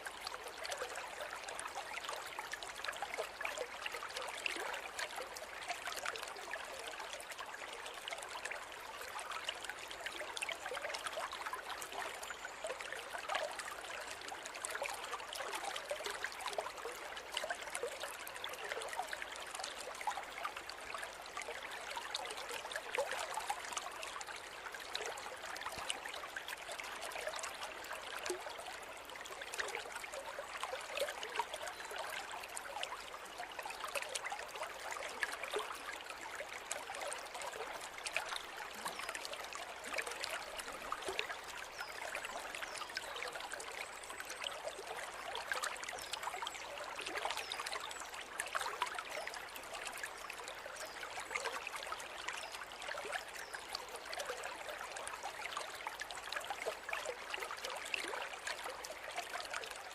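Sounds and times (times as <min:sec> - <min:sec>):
stream flowing and babbling: 0:00.0 - 0:59.9.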